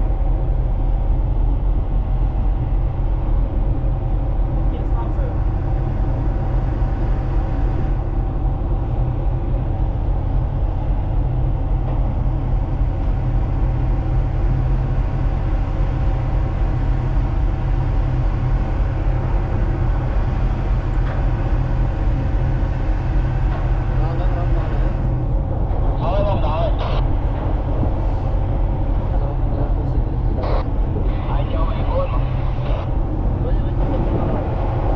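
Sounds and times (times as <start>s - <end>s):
constant hum: 0.0s - 34.9s
machinery low rumble: 0.0s - 34.9s.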